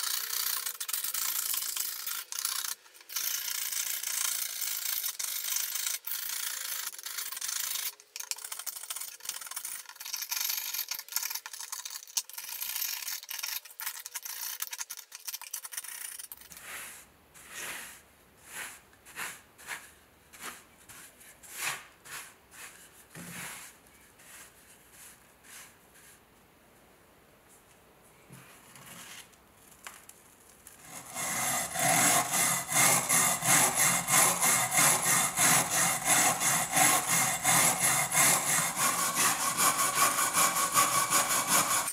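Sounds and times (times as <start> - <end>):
scraper scratching rust off metal: 0.0 - 26.1, 30.8 - 41.9.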